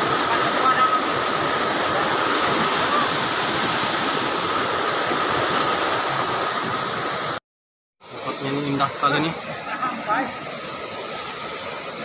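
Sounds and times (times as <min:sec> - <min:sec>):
waterfall rushing: 0:00.0 - 0:07.4, 0:08.0 - 0:12.0.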